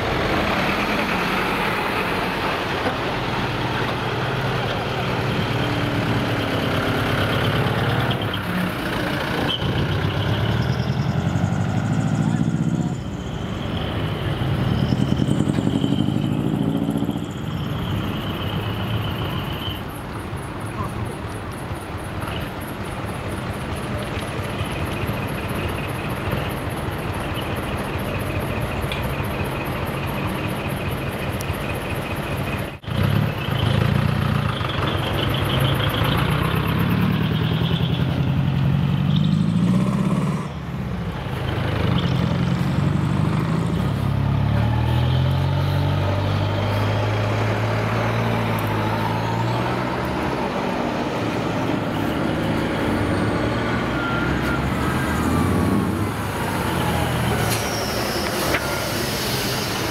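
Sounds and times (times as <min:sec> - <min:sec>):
diesel trucks accelerating: 0:00.0 - 0:59.9.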